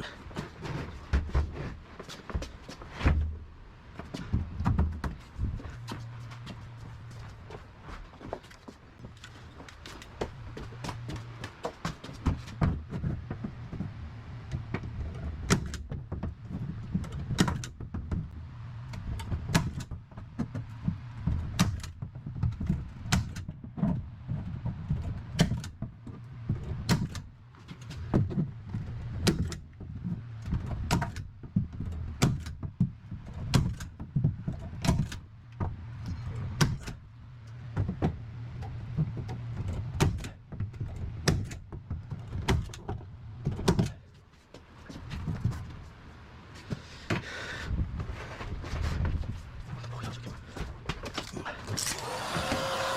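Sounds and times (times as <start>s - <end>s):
knocks and clunks of building work: 0.0s - 52.9s.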